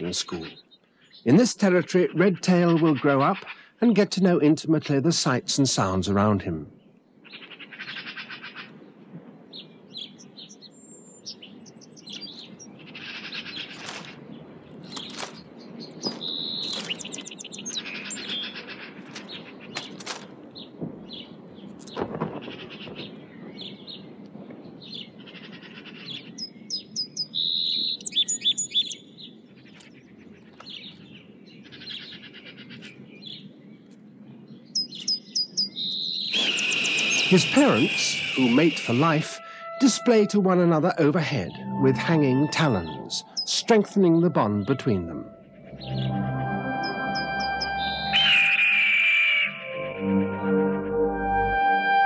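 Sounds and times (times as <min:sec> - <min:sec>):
woodland birds singing: 0:00.0 - 0:50.0.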